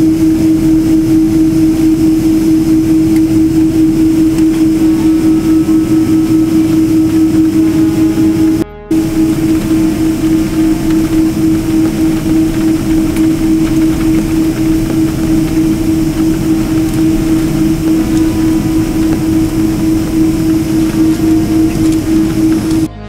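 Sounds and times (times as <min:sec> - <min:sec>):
jet engines drone from cabin: 0:00.0 - 0:23.0.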